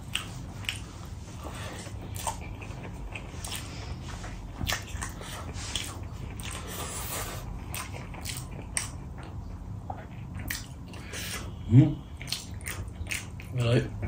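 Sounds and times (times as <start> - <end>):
wet chewing and lip smacks: 0.0 - 1.1, 1.7 - 11.5, 12.1 - 13.6.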